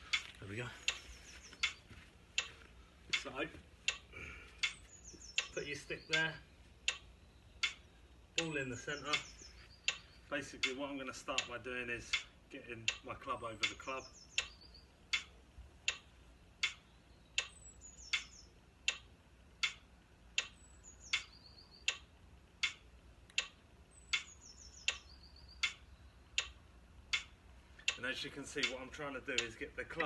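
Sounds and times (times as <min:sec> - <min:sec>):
metronome clicking: 0:03.1 - 0:30.0.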